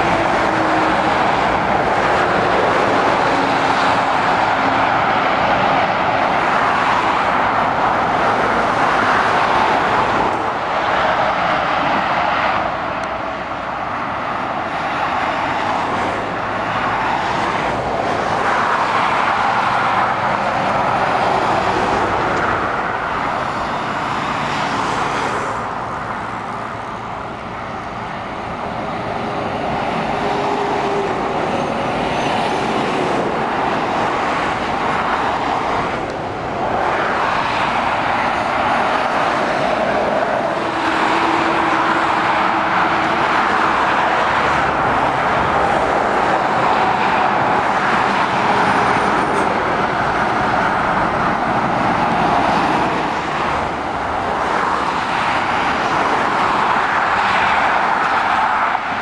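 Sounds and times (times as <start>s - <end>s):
lorries and cars passing: 0.0s - 59.0s.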